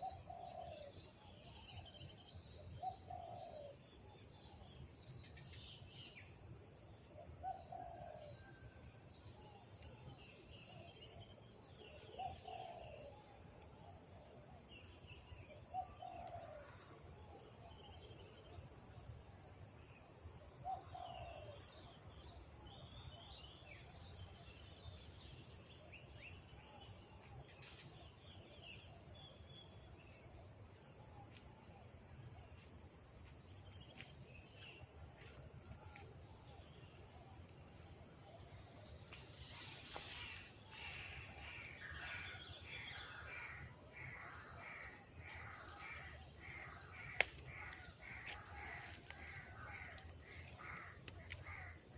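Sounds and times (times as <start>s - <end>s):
insect chorus: 0.0s - 51.9s.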